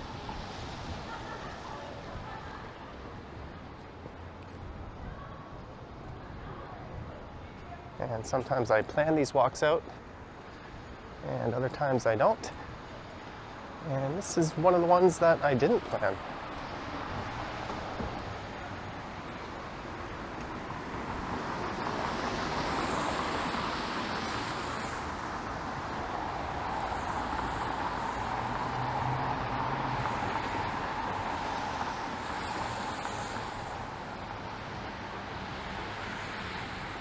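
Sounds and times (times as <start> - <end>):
tyres hissing on wet road: 0.0 - 2.9, 8.4 - 37.0
traffic hum: 0.0 - 37.0.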